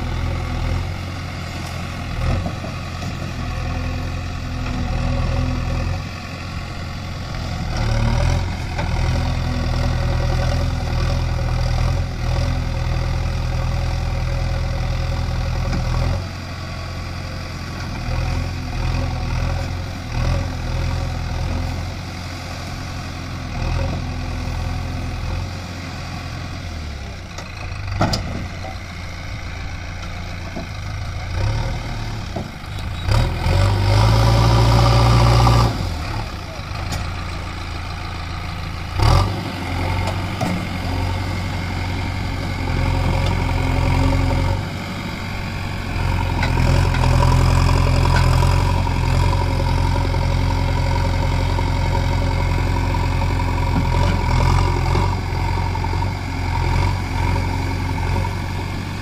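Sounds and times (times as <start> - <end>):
diesel engine under hydraulic load: 0.0 - 59.0.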